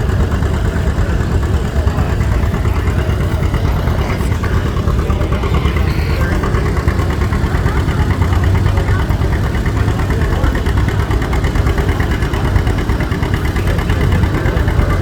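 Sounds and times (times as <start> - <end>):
tractor engine pulsing under load: 0.0 - 15.0.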